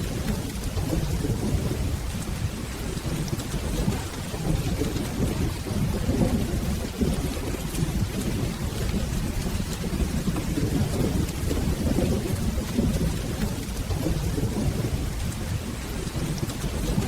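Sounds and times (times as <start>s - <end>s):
rolling thunder: 0.0s - 17.0s
steady rain: 0.0s - 17.0s
ticks of raindrops: 0.0s - 17.0s.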